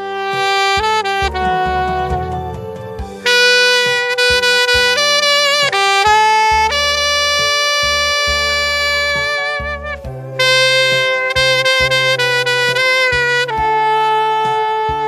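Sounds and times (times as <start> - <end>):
backing track with pulsing bass: 0.0 - 15.0
saxophone slow melody: 0.0 - 15.0.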